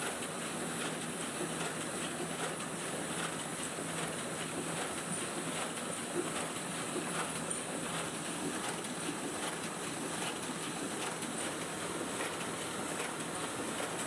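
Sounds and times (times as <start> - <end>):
printing press running: 0.0 - 14.0.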